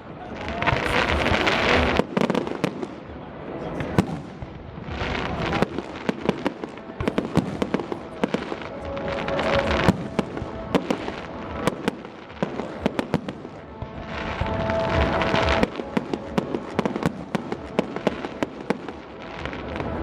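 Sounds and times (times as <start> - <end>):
fireworks hissing: 0.0 - 3.1, 3.8 - 20.0
fireworks bangs and crackling: 0.0 - 20.0.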